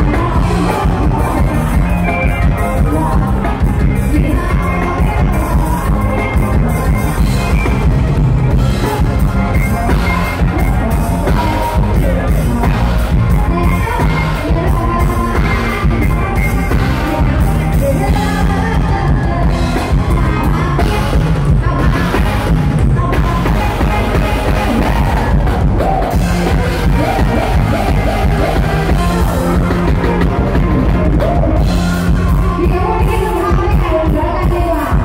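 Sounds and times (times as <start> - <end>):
live band music: 0.0 - 35.0
person singing: 0.0 - 35.0
steady drum beat: 0.0 - 35.0.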